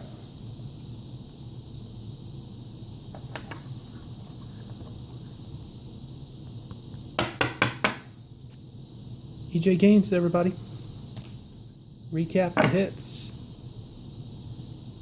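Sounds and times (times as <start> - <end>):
low room hum and hiss: 0.0 - 15.0.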